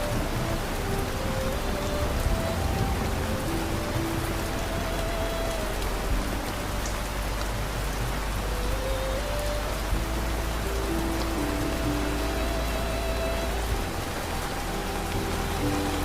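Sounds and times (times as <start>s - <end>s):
low rumble: 0.0s - 16.0s
slow melody of held notes: 0.0s - 16.0s
steady rain hiss: 0.0s - 16.0s.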